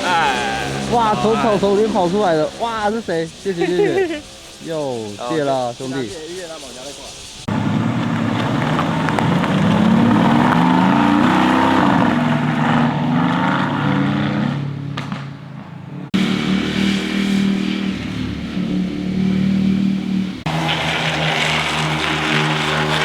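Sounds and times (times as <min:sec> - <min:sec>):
motorcycles revving past: 0:00.0 - 0:06.7, 0:07.4 - 0:23.0.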